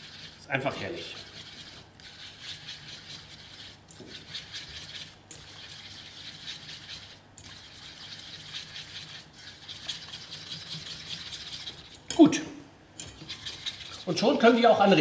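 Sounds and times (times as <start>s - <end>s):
whisk scraping metal saucepan: 0.0s - 12.2s, 13.0s - 15.0s.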